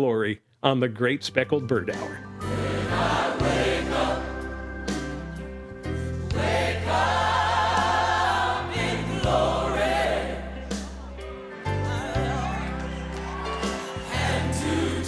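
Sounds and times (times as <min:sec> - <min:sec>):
instrumental backing with bass line: 0:01.4 - 0:15.0
vocal quartet singing in harmony: 0:02.4 - 0:15.0.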